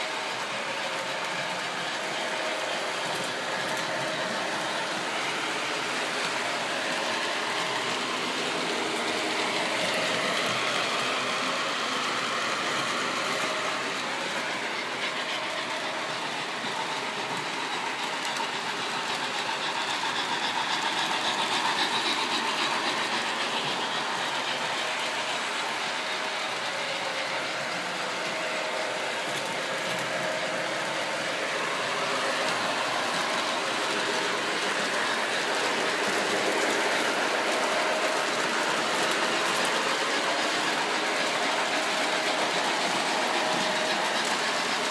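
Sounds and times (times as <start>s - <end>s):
model trains rumbling on track: 0.0s - 44.9s.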